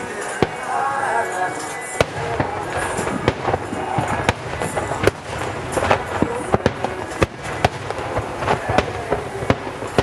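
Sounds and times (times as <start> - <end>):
crackling rumble of fireworks: 0.0 - 10.0
firework shells bursting: 0.0 - 10.0.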